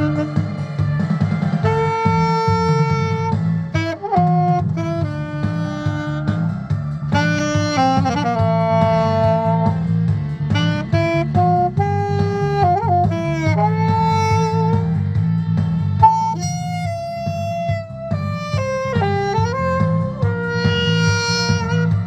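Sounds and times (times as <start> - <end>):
saxophone playing slow melody: 0.0 - 22.0
steady musical accompaniment: 0.0 - 22.0.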